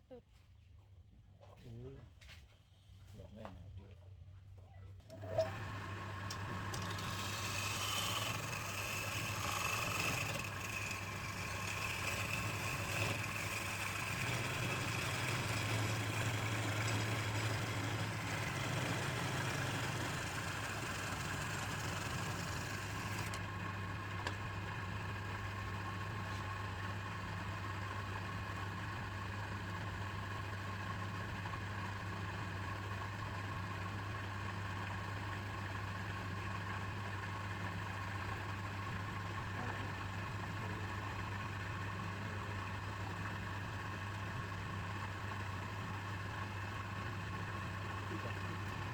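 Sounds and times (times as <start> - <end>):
lathe motor humming: 5.1 - 48.9.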